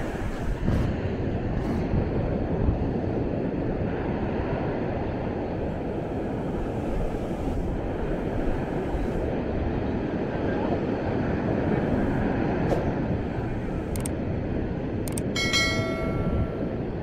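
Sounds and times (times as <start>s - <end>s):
low beach ambience rumble: 0.0s - 17.0s.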